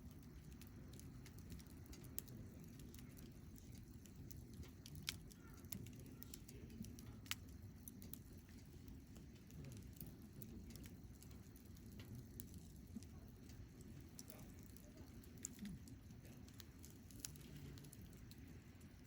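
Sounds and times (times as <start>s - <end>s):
campfire crackles and pops: 0.0s - 19.0s
low steady rumble: 0.0s - 19.0s.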